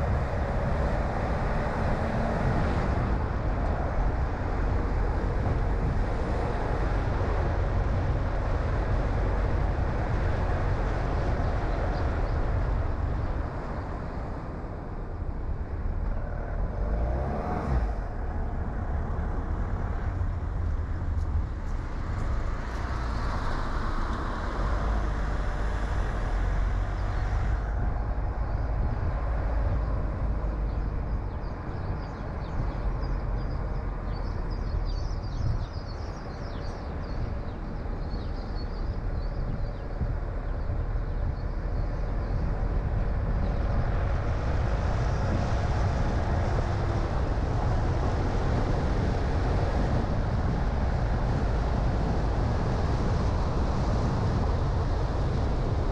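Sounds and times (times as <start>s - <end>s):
car engine and tyre rumble: 0.0s - 55.9s
road noise: 0.0s - 55.9s.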